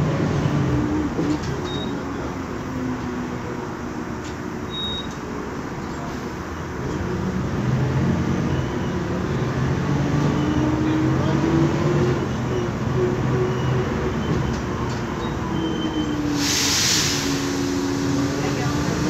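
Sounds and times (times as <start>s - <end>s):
bus engine and gearbox: 0.0s - 19.0s.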